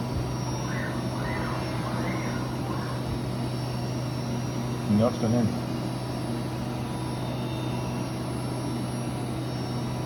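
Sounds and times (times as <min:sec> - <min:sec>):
faint high whine: 0:00.0 - 0:10.0
milling machine humming: 0:00.0 - 0:10.0.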